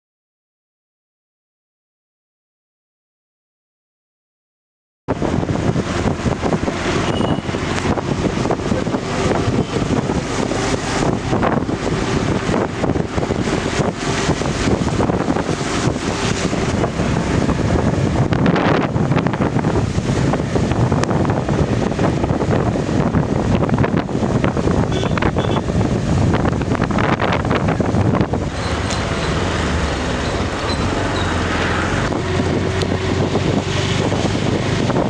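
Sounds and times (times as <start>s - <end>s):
wind buffeting microphone: 5.1s - 35.0s.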